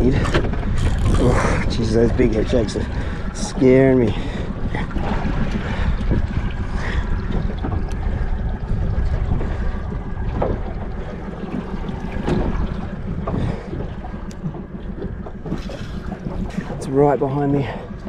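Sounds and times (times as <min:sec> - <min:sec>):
water against boat hull: 0:00.0 - 0:18.0
wind buffeting microphone: 0:00.0 - 0:18.0.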